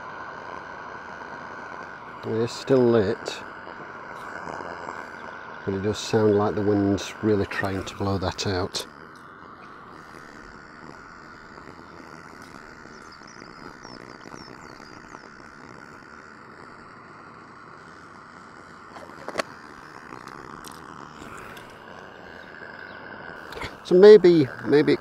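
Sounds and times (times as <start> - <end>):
gas stove flame hissing: 0.0 - 25.0
wind: 0.0 - 25.0.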